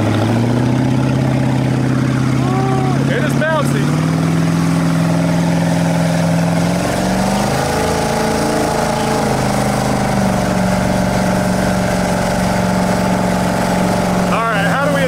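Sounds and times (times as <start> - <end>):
boat engine revving: 0.0 - 15.0
rush of wind and water: 0.0 - 15.0.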